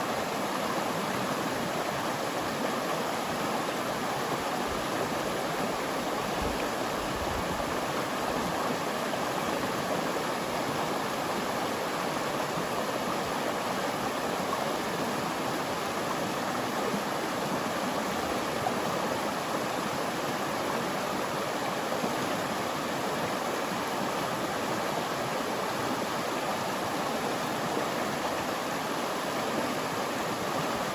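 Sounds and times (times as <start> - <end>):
river water rushing: 0.0 - 30.9.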